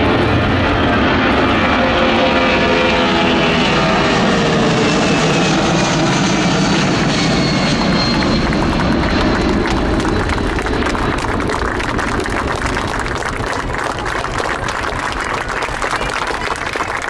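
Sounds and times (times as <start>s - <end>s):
jet engines roaring in flypast: 0.0s - 17.0s.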